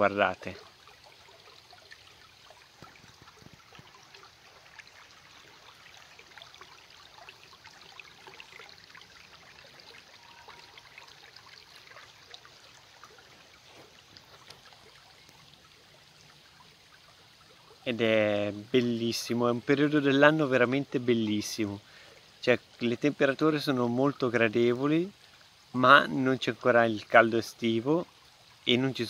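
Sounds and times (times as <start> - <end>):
brook trickling: 0.0 - 29.0.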